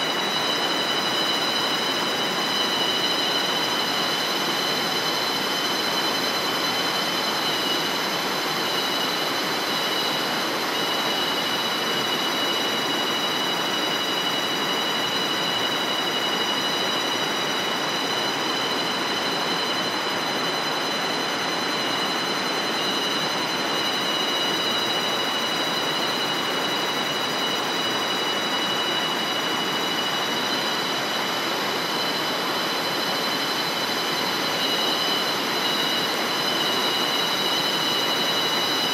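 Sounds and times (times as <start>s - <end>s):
insects chorus with high tones: 0.0s - 38.9s.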